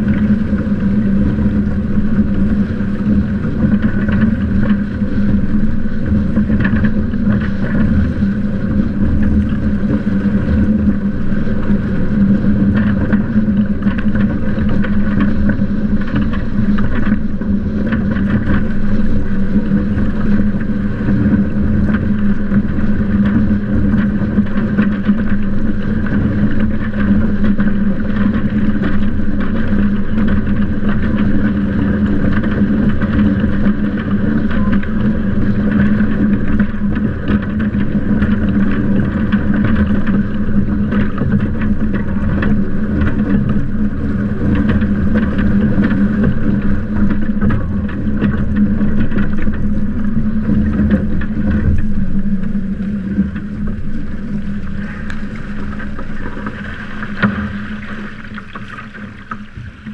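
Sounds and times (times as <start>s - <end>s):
steady low hum: 0.0s - 59.9s
water and wind rushing: 0.0s - 59.9s.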